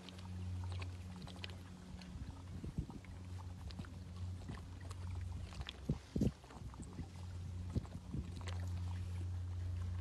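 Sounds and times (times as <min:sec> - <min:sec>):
steady low hum: 0:00.0 - 0:10.0
wet clicks and slurps: 0:00.0 - 0:10.0.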